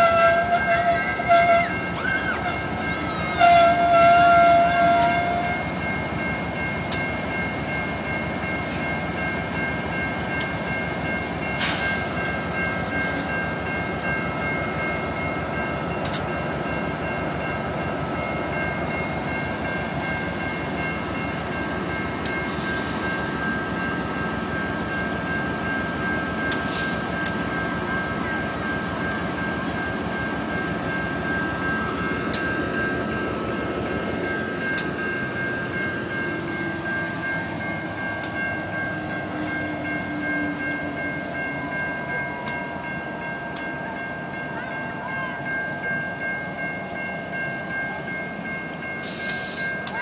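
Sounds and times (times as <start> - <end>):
diesel locomotive engines rumbling: 0.0 - 50.0.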